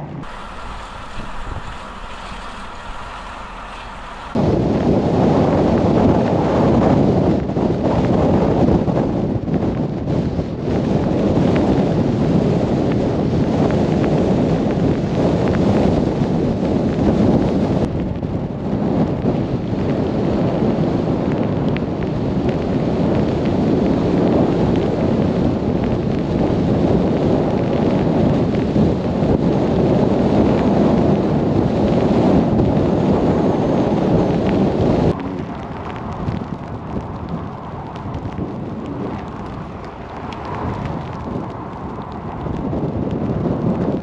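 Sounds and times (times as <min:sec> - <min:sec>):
vehicle road noise: 0:00.0 - 0:18.3, 0:19.4 - 0:44.0
blizzard wind: 0:00.0 - 0:44.0.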